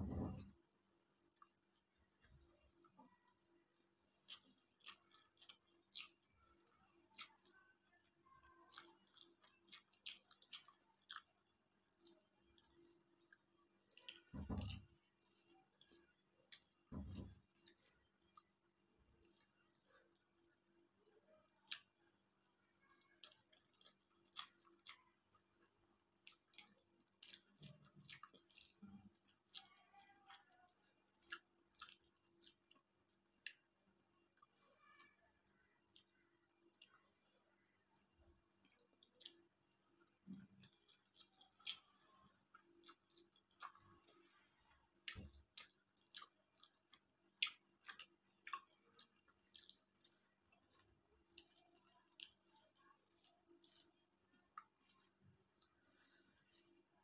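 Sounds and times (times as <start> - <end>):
soft chewing and mouth clicks: 0.0 - 57.0.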